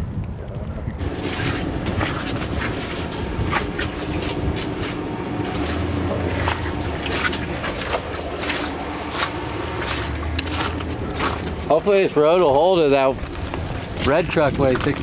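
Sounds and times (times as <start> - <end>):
low rumble: 0.6 - 15.0
steady wet hiss: 1.0 - 13.1
footsteps on muddy gravel: 1.0 - 15.0.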